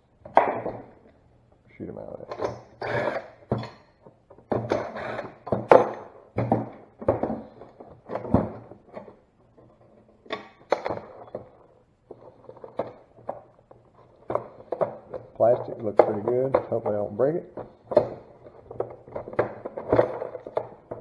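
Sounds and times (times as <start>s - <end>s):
knocks and clunks of car parts: 2.3s - 21.0s.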